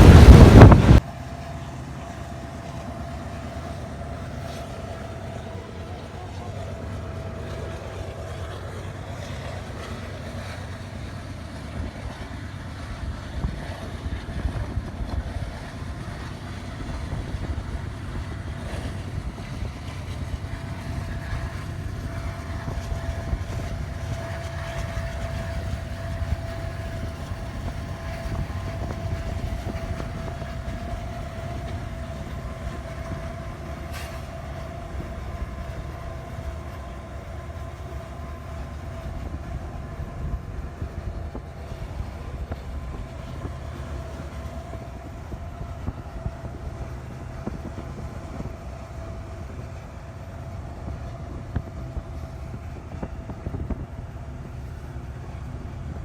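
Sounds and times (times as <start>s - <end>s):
thin steady whine: 0.0s - 56.0s
train wheels rumbling on rail: 0.0s - 56.0s.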